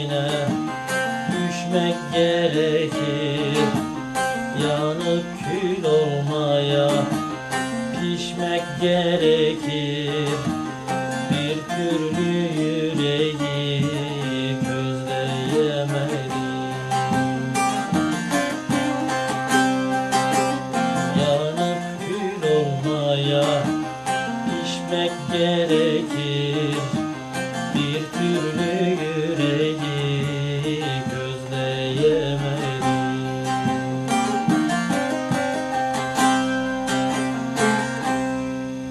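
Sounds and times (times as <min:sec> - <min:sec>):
long-necked lute plucked and strummed: 0:00.0 - 0:38.9.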